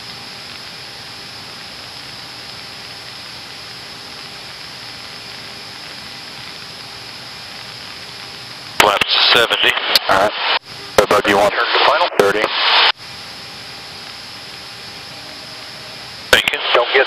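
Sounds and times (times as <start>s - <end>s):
turboprop engine hiss and rushing air: 0.0s - 17.0s
faint steady tones: 1.3s - 17.0s.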